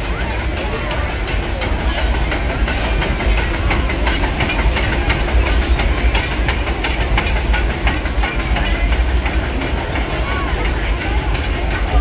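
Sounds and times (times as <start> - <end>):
train wheel clicks and knocks: 0.4 - 12.0.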